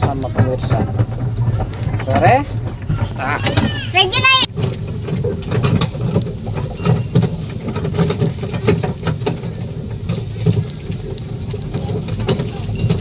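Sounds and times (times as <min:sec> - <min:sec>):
carriage clicks and rattles: 0:00.0 - 0:13.0
road train rumbling on paving: 0:00.0 - 0:13.0.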